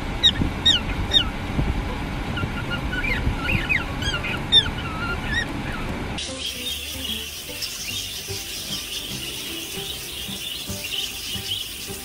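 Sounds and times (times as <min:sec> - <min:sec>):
low background rumble: 0:00.0 - 0:12.0
cockatiel chirping: 0:00.2 - 0:01.4, 0:02.4 - 0:12.0.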